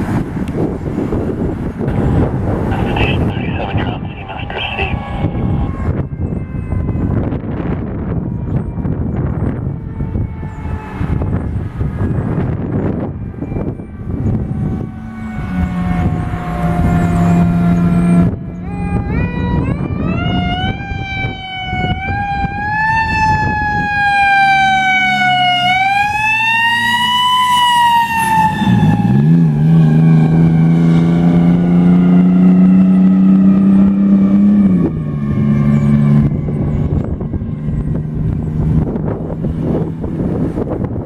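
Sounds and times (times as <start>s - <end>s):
fire truck siren wailing: 0.0s - 41.0s
long low horn blast: 1.8s - 9.0s, 9.6s - 40.7s.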